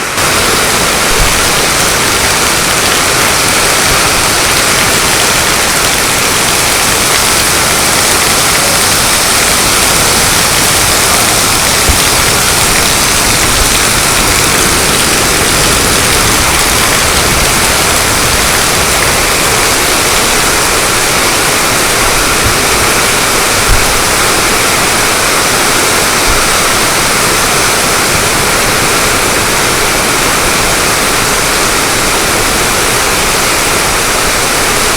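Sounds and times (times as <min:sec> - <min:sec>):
heavy rain on a tin roof: 0:00.0 - 0:34.9.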